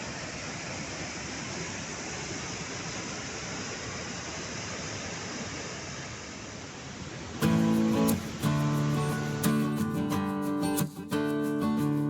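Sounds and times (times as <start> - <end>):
waterfall water rushing: 0.0 - 10.2.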